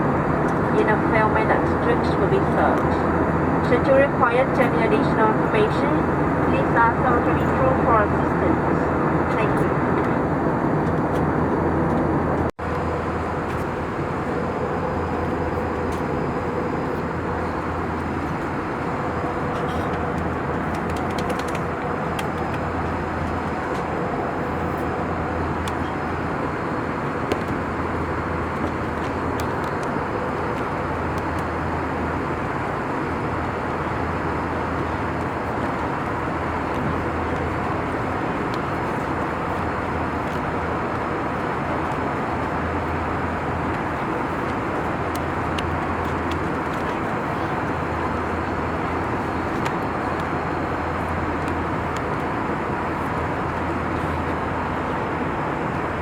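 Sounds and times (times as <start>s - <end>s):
airliner cabin roar: 0.0s - 56.0s.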